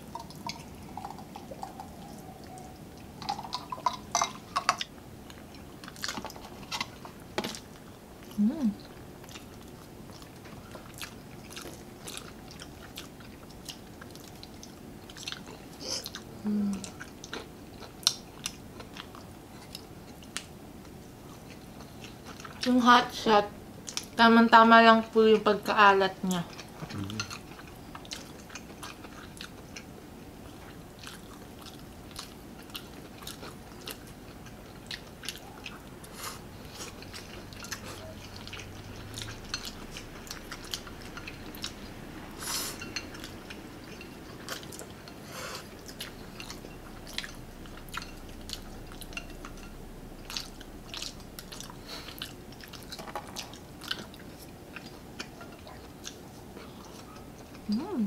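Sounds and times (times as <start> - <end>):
people chewing food: 0.0 - 22.9, 23.8 - 24.3, 26.2 - 58.0.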